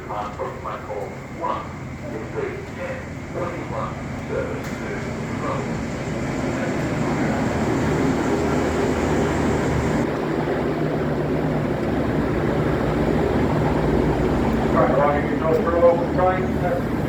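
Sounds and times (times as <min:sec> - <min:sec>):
diesel train engines humming: 0:00.0 - 0:17.0.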